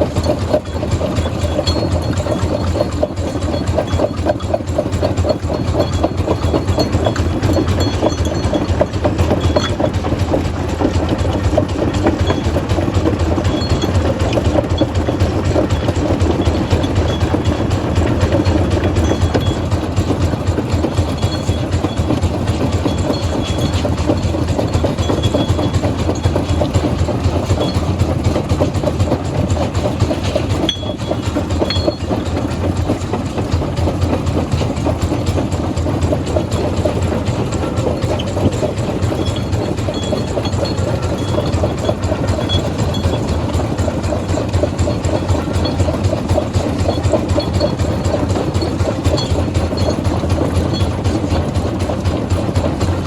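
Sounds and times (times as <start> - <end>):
low engine drone: 0.0 - 53.0
rock clattering in a crusher: 0.0 - 53.0.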